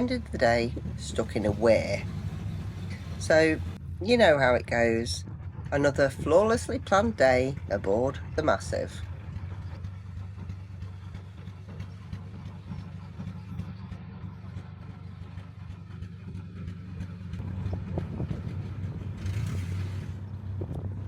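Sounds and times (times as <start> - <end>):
diesel engine thrumming: 0.0 - 21.0.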